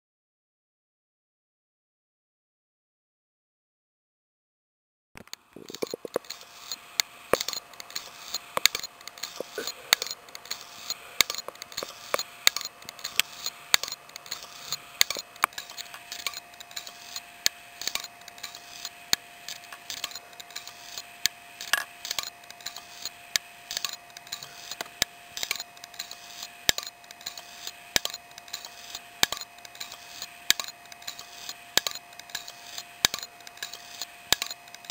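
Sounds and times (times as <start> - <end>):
faint steady whine: 5.2 - 34.9
hard disk drive clicking: 5.2 - 34.9.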